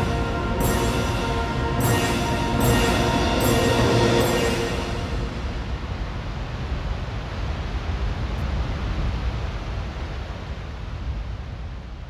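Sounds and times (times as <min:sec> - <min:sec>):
rushing noise with deep rumble: 0:00.0 - 0:12.0.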